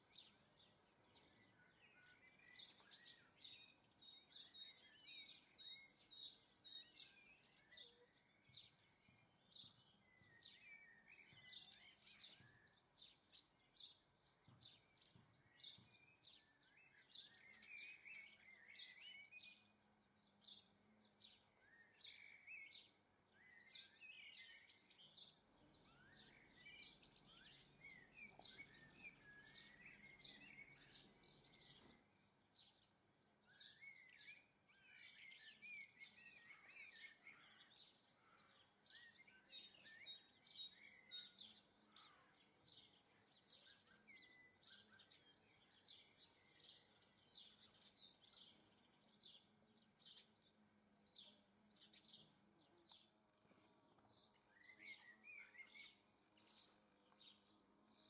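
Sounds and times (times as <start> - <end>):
songbirds chirping and twittering: 0.0 - 58.0.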